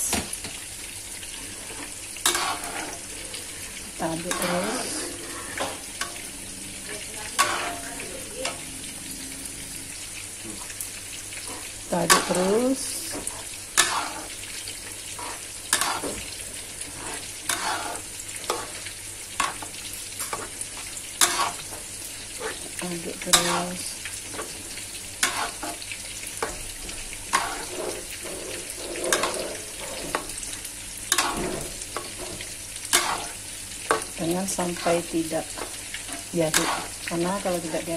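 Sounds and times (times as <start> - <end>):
low hiss from pan: 0.0 - 37.9
spatula scraping a metal wok: 1.2 - 6.3, 7.2 - 8.6, 11.3 - 34.1, 34.8 - 37.8.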